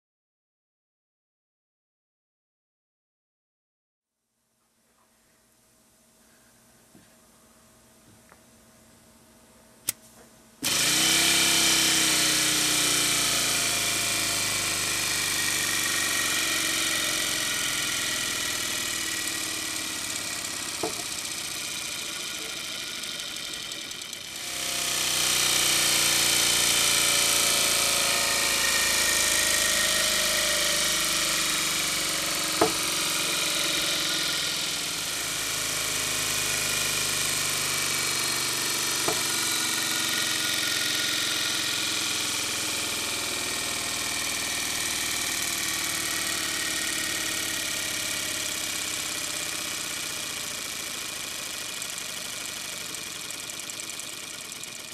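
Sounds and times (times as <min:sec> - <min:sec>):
model airplane motor buzzing: 0:10.6 - 0:54.9.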